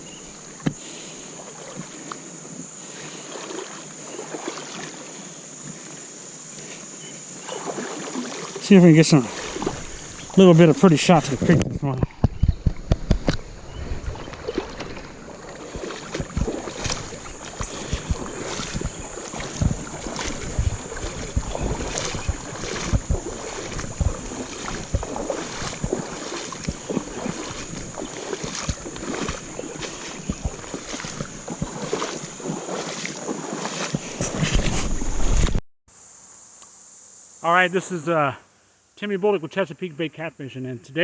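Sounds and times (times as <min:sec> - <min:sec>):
creek flowing and babbling: 0:00.0 - 0:34.4.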